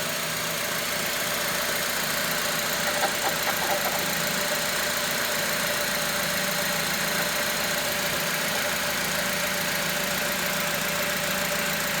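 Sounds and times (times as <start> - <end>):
car engine running: 0.2 - 11.6.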